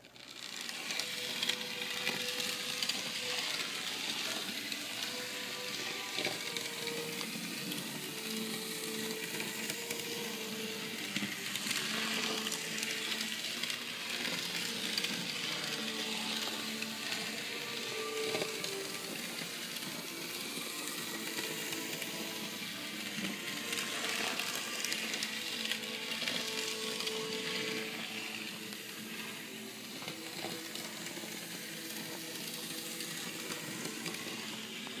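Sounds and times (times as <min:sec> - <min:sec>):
model train high whirring: 0:00.0 - 0:35.0.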